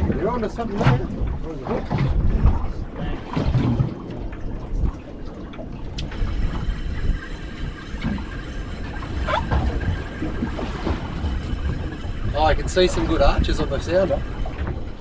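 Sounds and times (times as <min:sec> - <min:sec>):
waves against boat hull: 0:00.0 - 0:15.0
wind buffeting microphone: 0:00.0 - 0:15.0.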